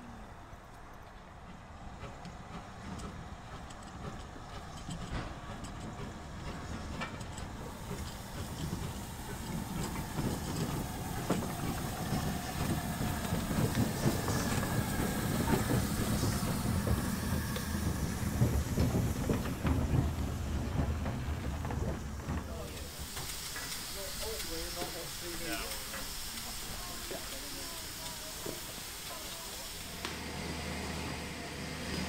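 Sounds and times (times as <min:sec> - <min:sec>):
steam locomotive rumble: 0:00.0 - 0:32.0
clanking wheels and running gear: 0:00.5 - 0:32.0.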